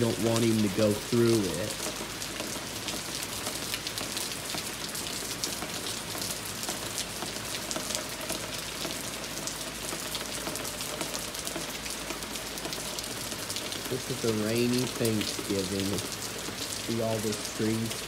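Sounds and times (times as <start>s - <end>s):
rain on wooden deck and trees: 0.0s - 18.0s.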